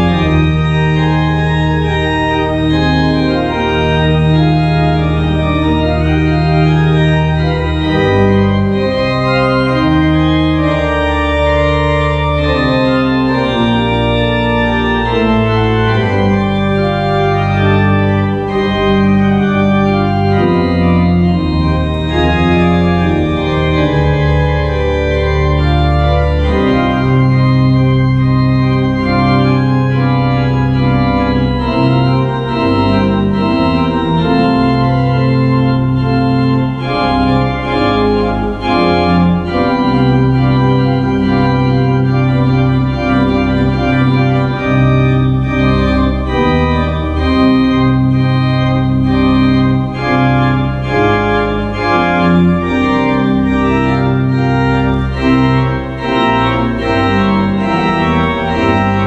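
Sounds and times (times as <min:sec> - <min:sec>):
church organ chords: 0:00.0 - 0:59.0.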